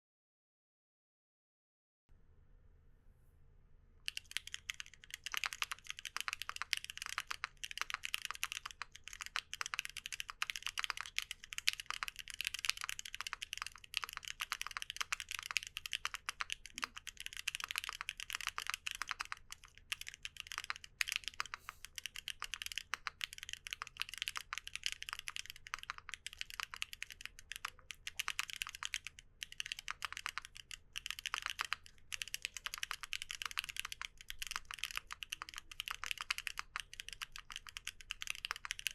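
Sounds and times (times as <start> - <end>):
fast typing on mechanical keyboard: 4.1 - 38.9.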